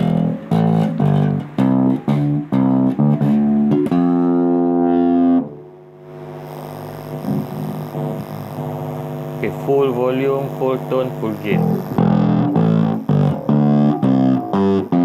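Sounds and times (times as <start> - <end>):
amplifier buzz: 0.0 - 15.0
electric bass plucked notes: 0.0 - 15.0.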